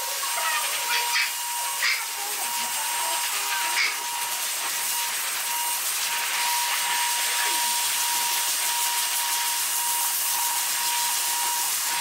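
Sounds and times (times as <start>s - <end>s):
pet dryer blowing air with whine: 0.0s - 12.0s.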